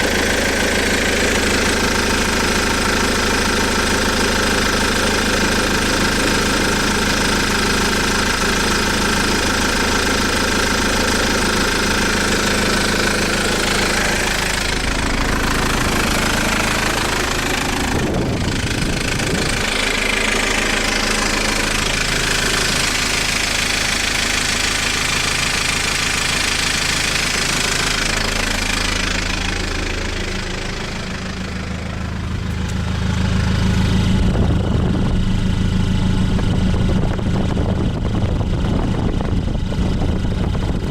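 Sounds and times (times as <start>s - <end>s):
engine knocking: 0.0s - 40.9s
vehicle engine running: 0.0s - 40.9s.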